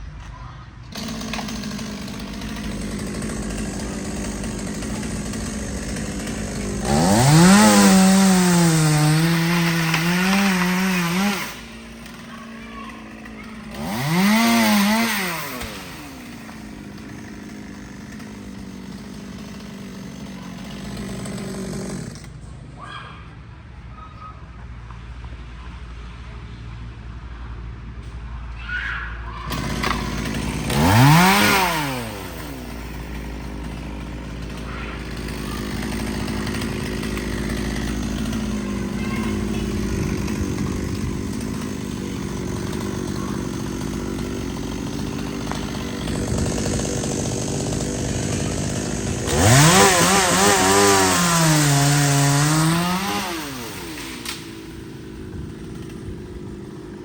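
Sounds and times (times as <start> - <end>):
chainsaw idling and revving: 0.8 - 22.5, 29.5 - 57.0.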